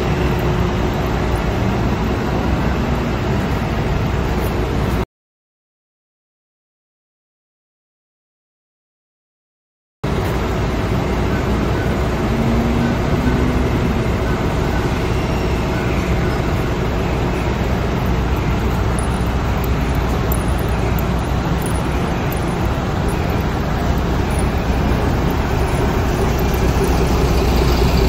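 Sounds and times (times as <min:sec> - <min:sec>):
street traffic rumble: 0:00.0 - 0:05.0, 0:10.0 - 0:28.0.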